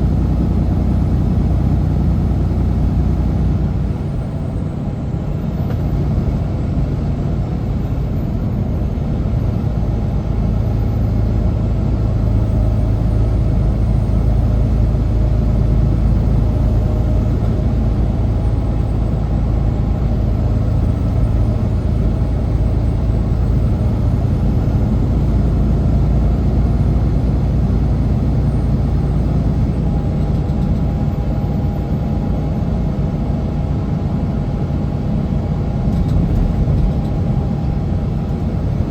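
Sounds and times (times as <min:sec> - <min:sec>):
diesel truck engine droning: 0:00.0 - 0:38.9
road noise: 0:00.0 - 0:38.9.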